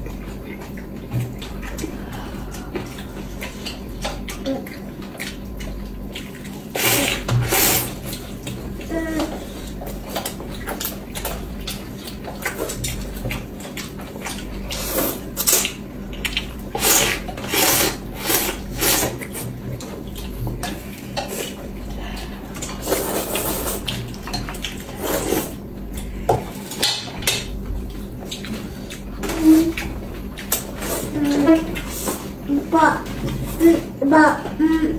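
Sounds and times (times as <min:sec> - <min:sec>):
eating noises: 0:00.0 - 0:34.9.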